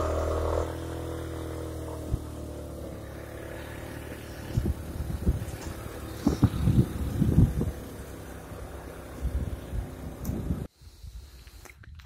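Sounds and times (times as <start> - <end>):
motorcycle engine: 0.0 - 10.7.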